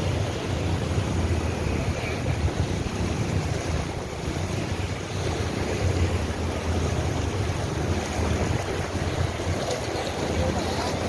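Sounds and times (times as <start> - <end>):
floodwater rushing: 0.0 - 11.0
wind rumbling on microphone: 0.0 - 11.0.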